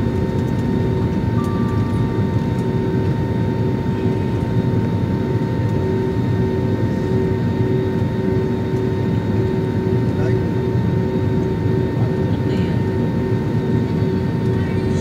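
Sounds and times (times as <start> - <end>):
constant cabin hum: 0.0 - 15.0
jet engines at low power: 0.0 - 15.0.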